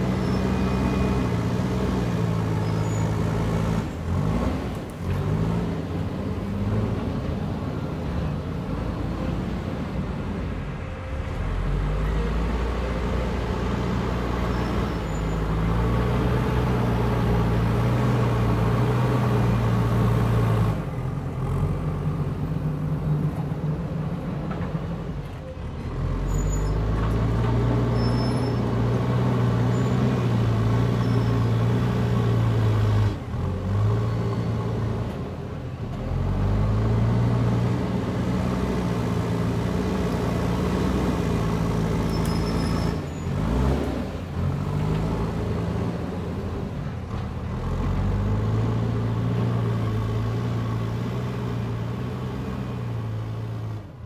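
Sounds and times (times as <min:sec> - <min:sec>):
diesel engine revving under load: 0:00.0 - 0:54.0.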